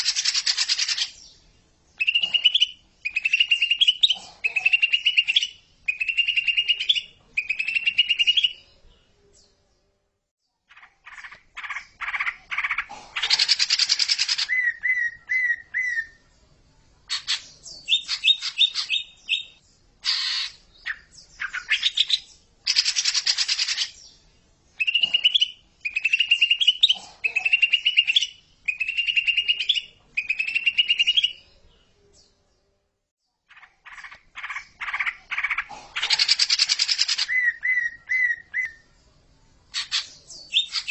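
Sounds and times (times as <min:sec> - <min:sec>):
bird singing chattering song: 0:00.0 - 0:09.7, 0:10.5 - 0:16.4, 0:17.1 - 0:32.5, 0:33.2 - 0:39.1, 0:39.7 - 0:40.9.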